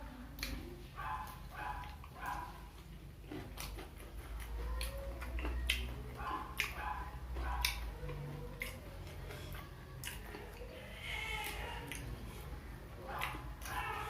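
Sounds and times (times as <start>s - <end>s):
wet chewing and lip smacking: 0.3s - 14.0s.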